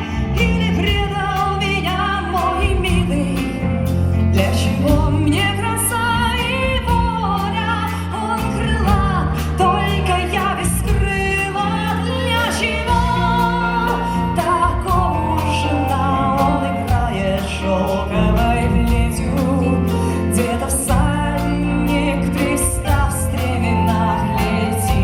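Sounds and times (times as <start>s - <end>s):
drum beats: 0.0s - 5.6s, 8.4s - 25.0s
bass line: 0.0s - 25.0s
folk-rock band playing: 0.0s - 25.0s
wavering lead melody: 0.0s - 25.0s.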